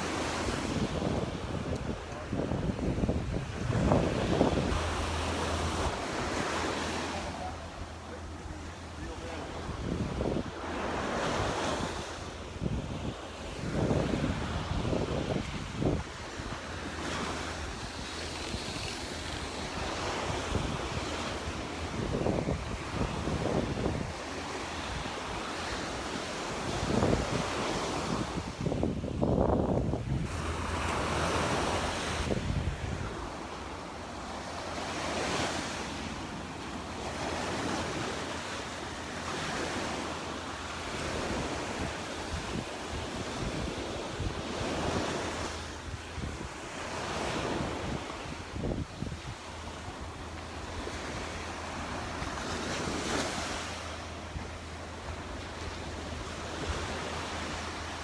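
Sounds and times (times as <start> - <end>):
wind buffeting microphone: 0.0 - 33.5, 40.8 - 58.0
surf breaking on beach: 0.0 - 58.0.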